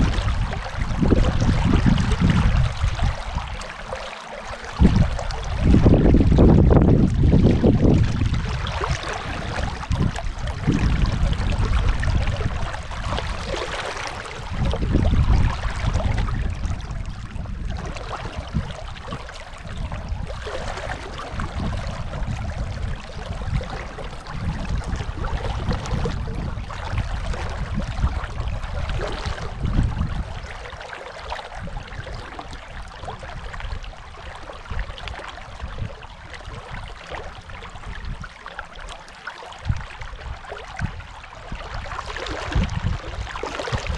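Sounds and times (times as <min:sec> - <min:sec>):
rushing river water: 0:00.0 - 0:43.9.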